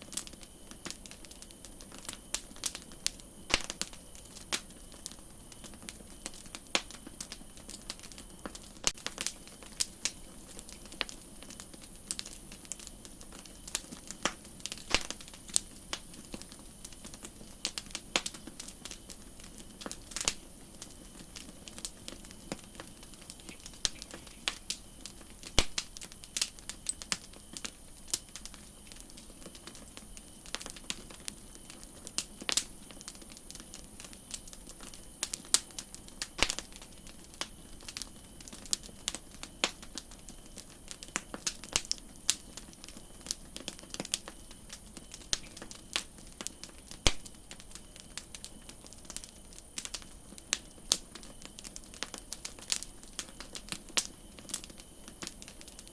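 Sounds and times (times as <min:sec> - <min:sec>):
campfire crackling: 0:00.0 - 0:55.9
soft steady hiss: 0:00.0 - 0:55.9.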